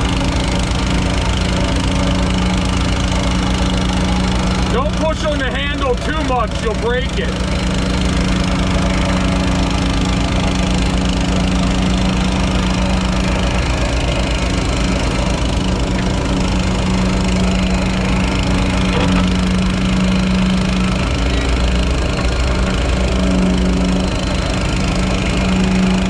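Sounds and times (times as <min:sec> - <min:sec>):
small gasoline engine running: 0:00.0 - 0:26.0.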